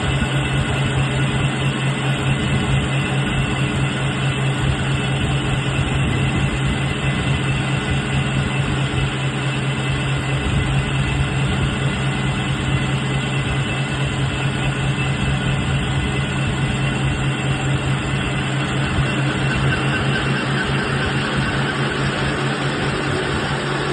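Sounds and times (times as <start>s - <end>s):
drilling machine humming: 0.0s - 23.9s.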